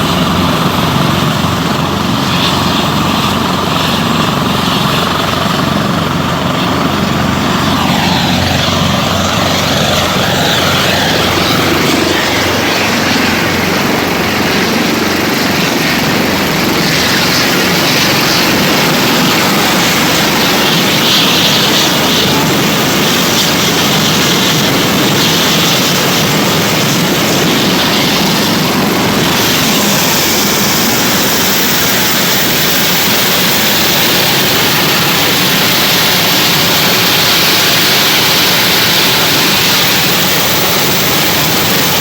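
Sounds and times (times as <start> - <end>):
helicopter rotor drone: 0.0 - 42.0.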